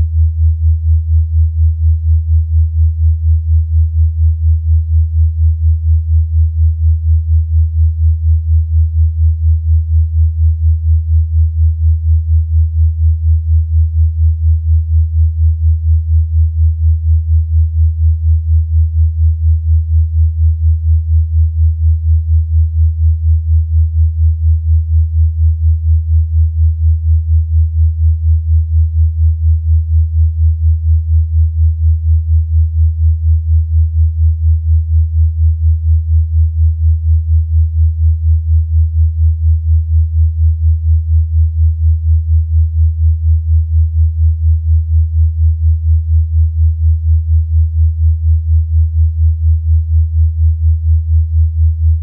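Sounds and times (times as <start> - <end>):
low pulsing pure tone: 0.0 - 52.0.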